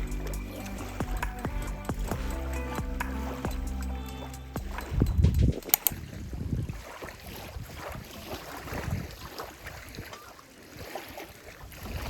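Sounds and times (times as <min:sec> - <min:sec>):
small waves lapping shore: 0:00.0 - 0:12.0.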